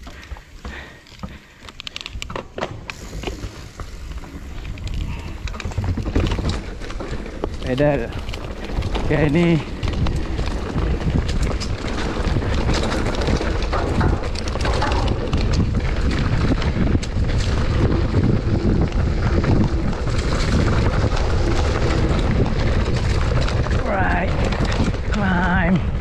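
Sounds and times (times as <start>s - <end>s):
bike rolling over rocky trail: 0.0s - 26.0s
wind buffeting microphone: 2.9s - 26.0s.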